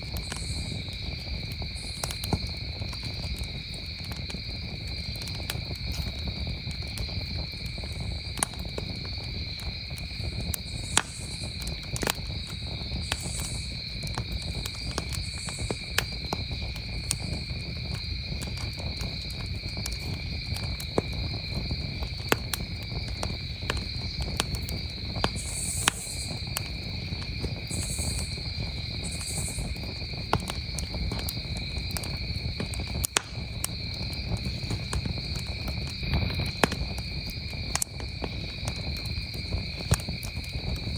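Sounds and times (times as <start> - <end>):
campfire crackling and popping: 0.0 - 40.9
crickets trilling: 0.0 - 40.9.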